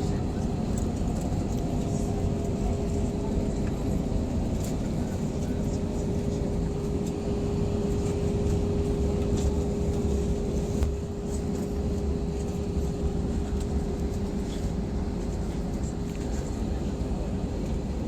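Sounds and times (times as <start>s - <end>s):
light rattling clicks in cabin: 0.1s - 18.0s.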